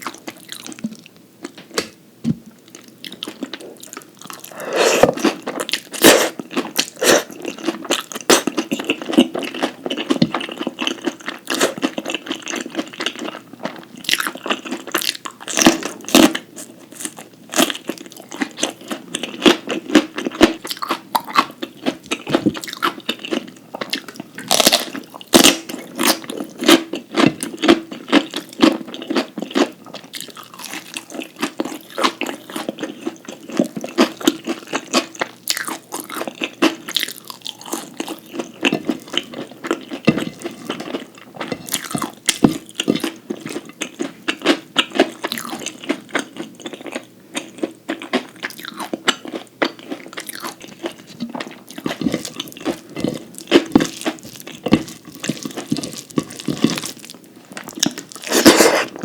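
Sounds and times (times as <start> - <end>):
person chewing crunchy food: 0.0 - 2.0, 2.6 - 59.0.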